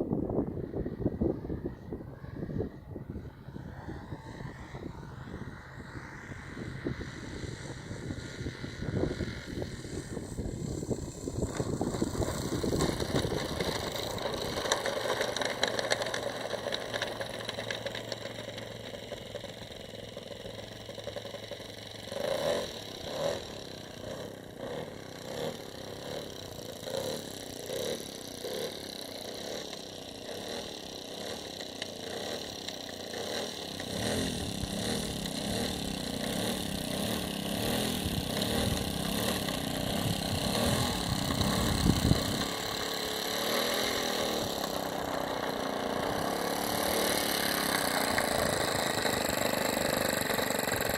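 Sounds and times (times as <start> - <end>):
model airplane engine running: 0.0 - 50.9.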